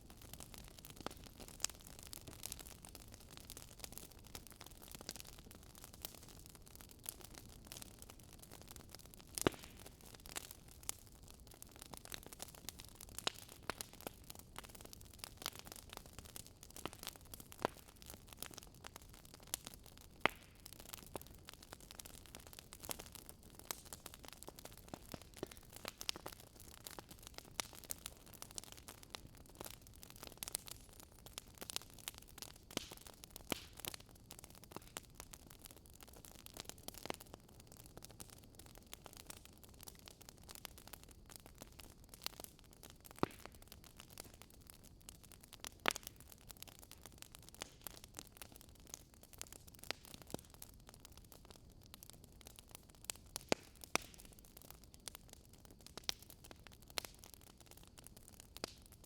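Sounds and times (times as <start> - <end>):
fireplace crackling and popping: 0.0 - 59.0.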